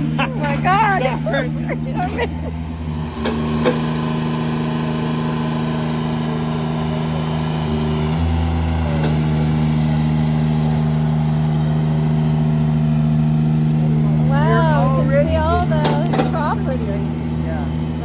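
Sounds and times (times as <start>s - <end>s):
boom lift engine and hydraulics: 0.0s - 18.0s.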